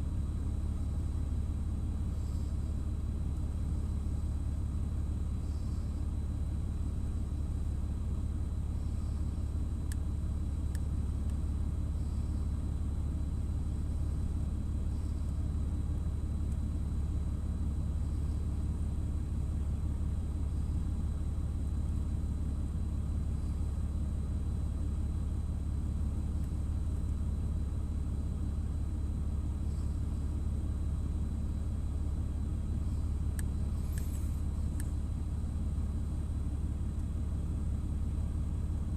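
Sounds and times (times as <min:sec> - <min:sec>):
faint high whine: 0:00.0 - 0:38.9
low mechanical rumble: 0:00.0 - 0:38.9.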